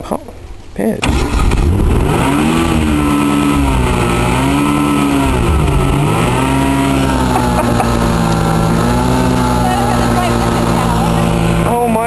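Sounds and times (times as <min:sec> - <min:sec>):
car engine revving: 0:01.0 - 0:12.0.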